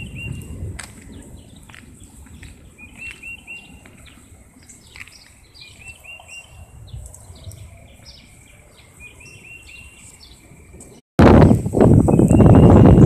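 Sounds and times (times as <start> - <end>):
birds chirping: 0.0 - 11.0, 12.0 - 13.0.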